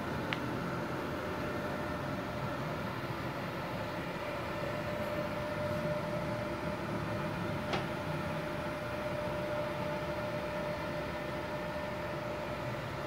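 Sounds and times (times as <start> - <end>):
welding machine cooling fan whir: 0.0 - 13.0.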